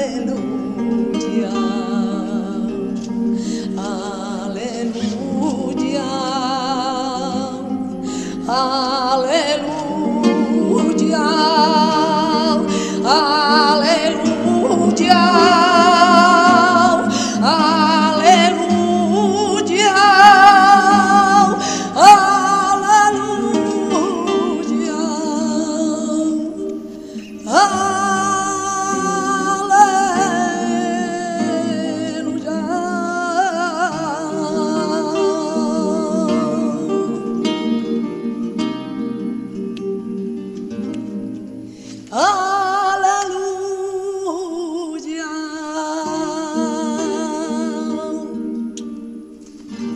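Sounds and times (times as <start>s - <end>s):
acoustic guitar: 0.0s - 49.9s
woman singing flamenco-style: 0.0s - 49.9s.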